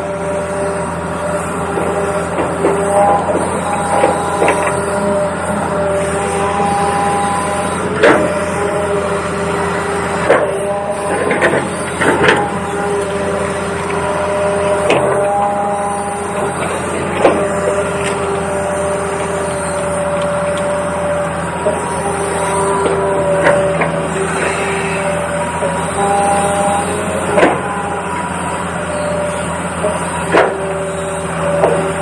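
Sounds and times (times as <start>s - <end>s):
small electric motors whining: 0.0s - 32.0s.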